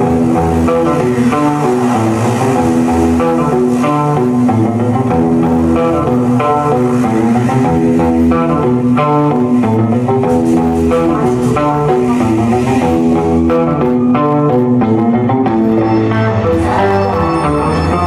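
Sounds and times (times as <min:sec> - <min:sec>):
live instrumental rock band: 0:00.0 - 0:18.0.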